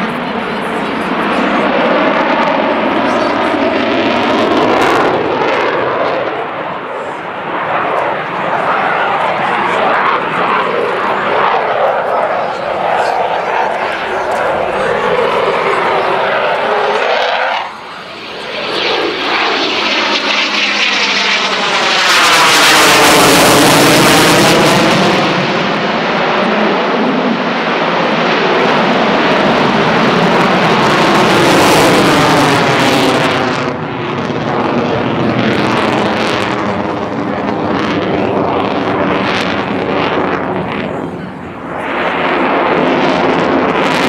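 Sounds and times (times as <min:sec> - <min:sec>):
jet engines roaring in a pass: 0:00.0 - 0:44.0.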